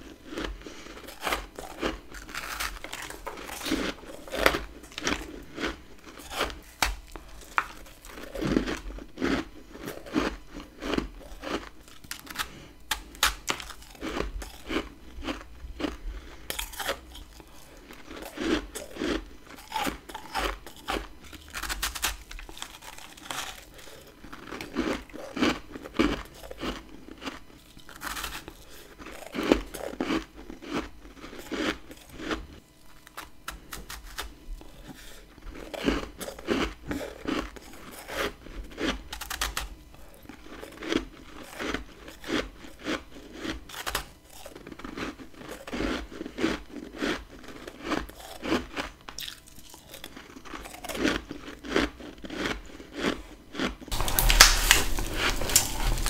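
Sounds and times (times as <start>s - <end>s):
crunching frost being chewed: 0.0s - 56.0s.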